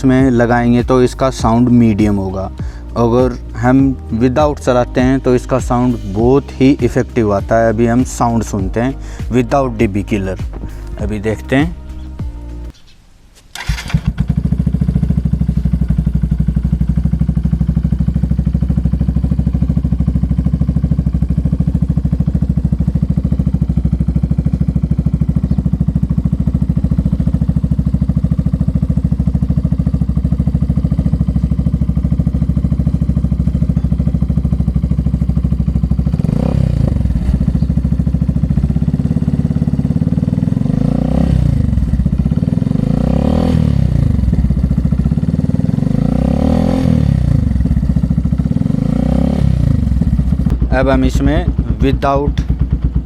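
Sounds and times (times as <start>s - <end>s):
engine revving: 0.0s - 12.8s, 13.5s - 53.0s
motorcycle engine idling: 0.0s - 12.9s, 13.5s - 53.0s.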